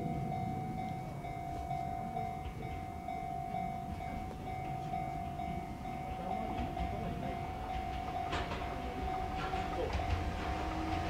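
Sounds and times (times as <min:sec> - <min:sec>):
railroad crossing bell ringing: 0:00.0 - 0:11.0
train rumbling past: 0:00.0 - 0:11.0
train wheel clicks: 0:01.7 - 0:11.0.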